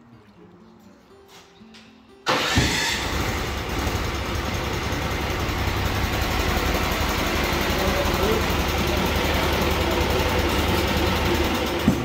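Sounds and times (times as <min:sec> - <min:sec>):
sawmill gasoline engine running: 0:02.3 - 0:12.0.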